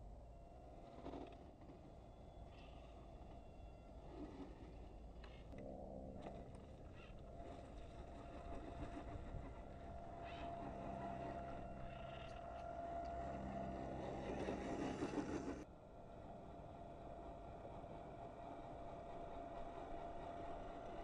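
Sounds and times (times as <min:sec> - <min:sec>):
electric motor and gear whine: 0:00.0 - 0:21.0.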